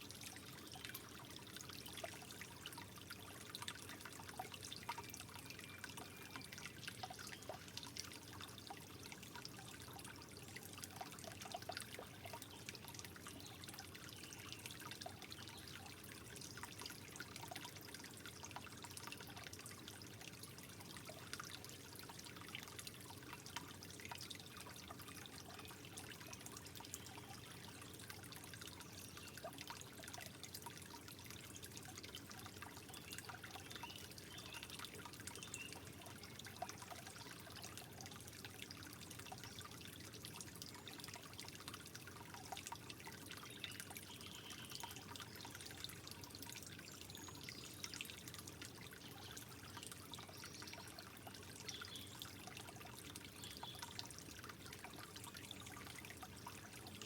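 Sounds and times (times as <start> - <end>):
water drips and splashes: 0.0 - 57.0
water trickling: 0.0 - 57.0.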